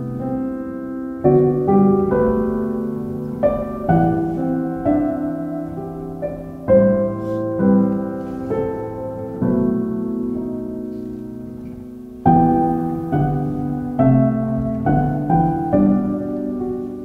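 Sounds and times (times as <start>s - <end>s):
slow gentle piano piece: 0.0s - 17.0s.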